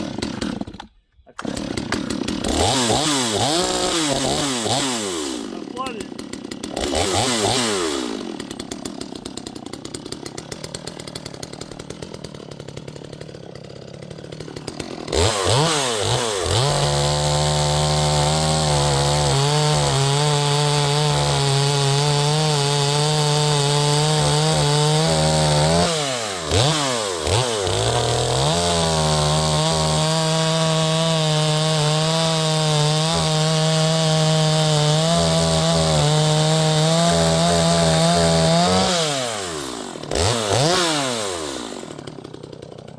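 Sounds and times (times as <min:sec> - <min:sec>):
chainsaw idling and revving: 0:00.0 - 0:42.9.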